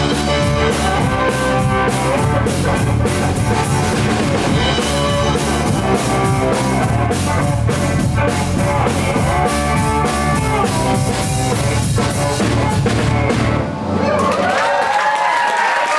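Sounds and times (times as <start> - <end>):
electric slide guitar: 0.0 - 14.4
bass guitar: 0.0 - 14.7
drum kit: 0.0 - 15.0.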